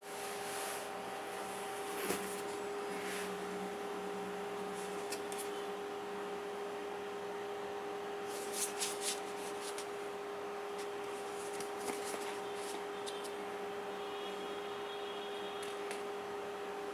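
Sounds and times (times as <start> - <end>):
electrical hum: 0.0 - 16.9.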